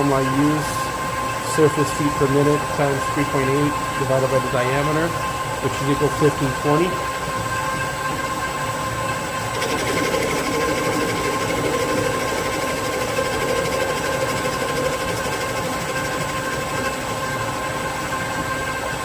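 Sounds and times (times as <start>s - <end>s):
lathe running with whining hum: 0.0s - 19.0s.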